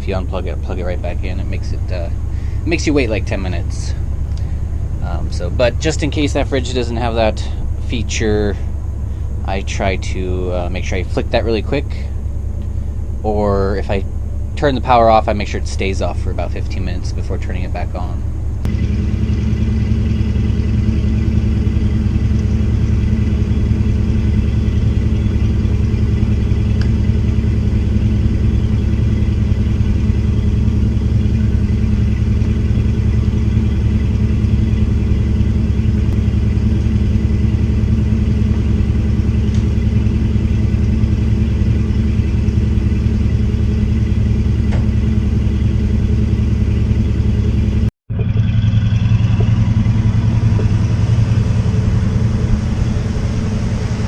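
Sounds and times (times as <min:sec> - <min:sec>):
motorhome engine rumbling: 0:00.0 - 0:54.0.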